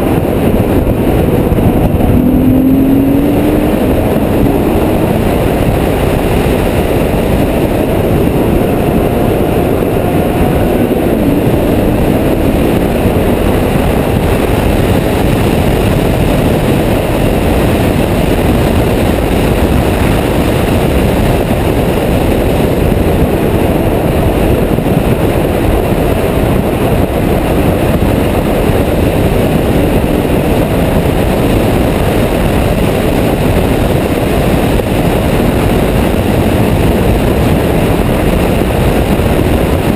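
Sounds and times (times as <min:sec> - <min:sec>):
car engine revving: 0:00.0 - 0:39.9
wind rushing on microphone: 0:00.0 - 0:39.9.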